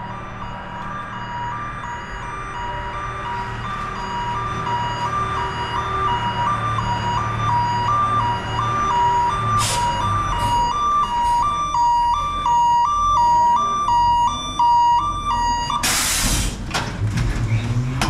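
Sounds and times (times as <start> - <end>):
two-tone backup alarm beeping: 0.0 - 16.1.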